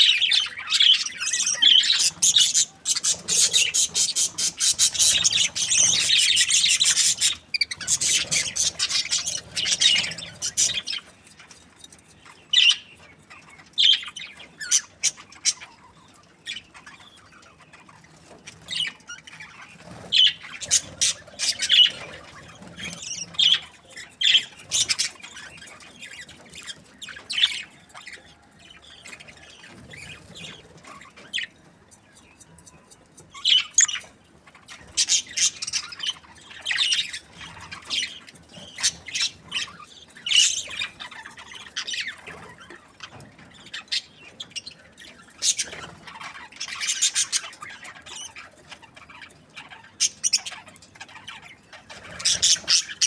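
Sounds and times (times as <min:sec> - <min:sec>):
budgerigars chirping: 0:00.0 - 0:53.0.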